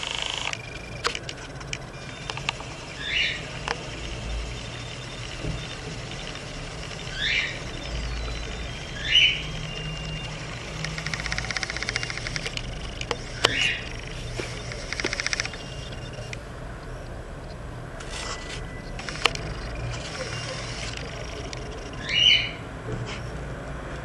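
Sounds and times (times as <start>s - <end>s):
bird calling: 0.0s - 17.1s, 18.1s - 23.4s.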